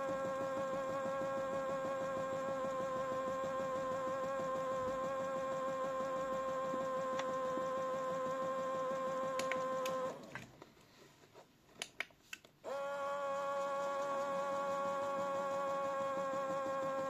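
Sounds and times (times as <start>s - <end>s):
toy washing machine motor whining: 0.0s - 10.6s, 12.6s - 17.0s.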